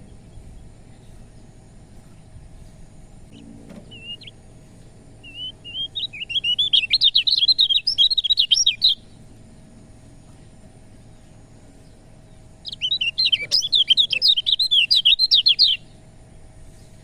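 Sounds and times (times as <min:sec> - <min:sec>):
small bird singing: 0:00.0 - 0:17.0.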